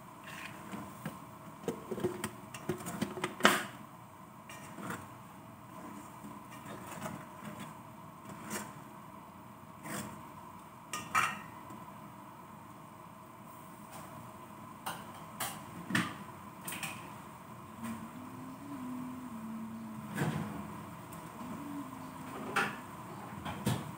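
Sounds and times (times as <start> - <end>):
faint hum: 0.0 - 23.9.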